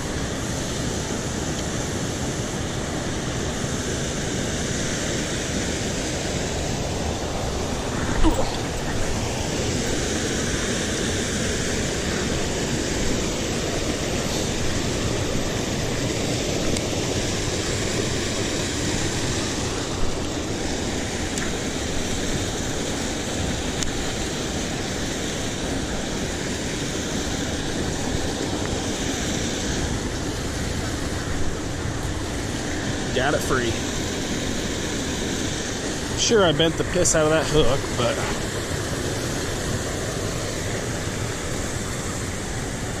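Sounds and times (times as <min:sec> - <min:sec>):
water rushing over spillway: 0:00.0 - 0:43.0.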